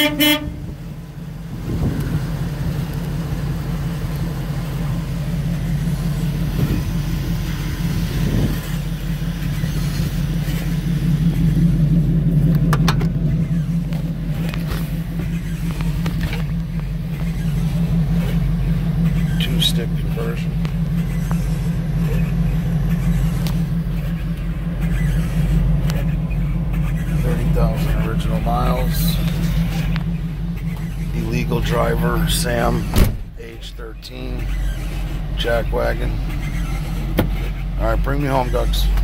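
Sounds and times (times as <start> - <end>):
engine running from inside cab: 0.0 - 39.0.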